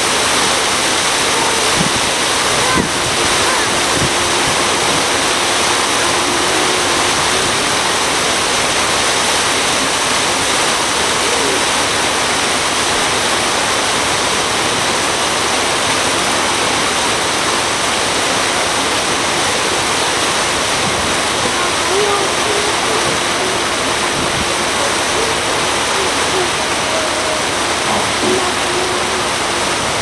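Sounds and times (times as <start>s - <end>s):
water rushing along boat hull: 0.0s - 30.0s.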